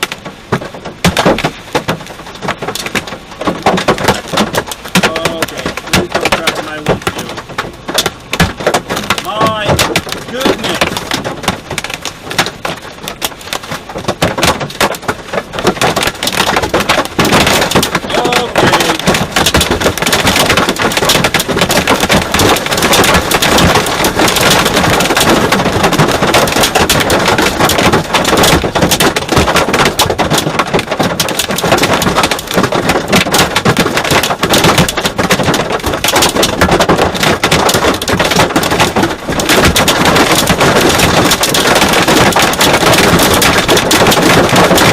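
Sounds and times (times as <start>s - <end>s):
hailstones pelting a car: 0.0s - 44.9s.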